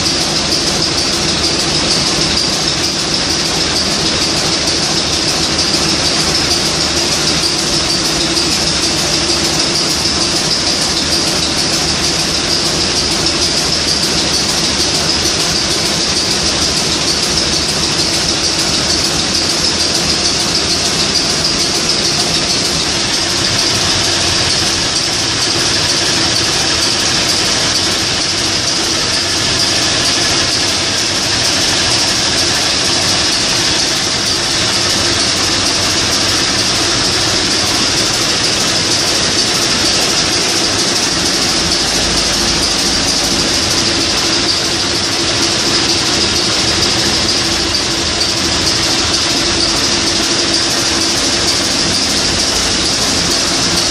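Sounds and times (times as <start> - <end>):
diesel engine running loudly: 0.0 - 53.9.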